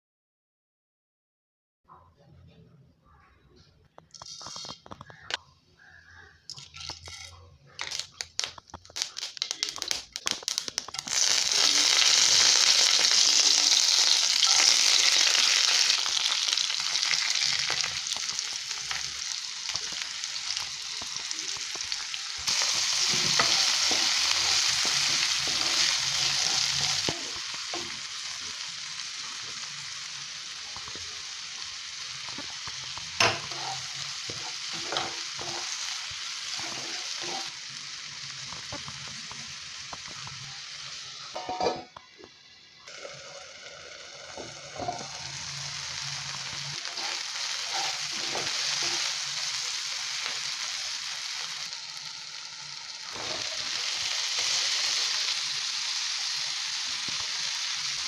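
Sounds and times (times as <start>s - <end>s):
seeds popping in hot oil: 4.0s - 40.7s, 42.9s - 58.0s
vegetables sizzling in a pan: 6.5s - 58.0s.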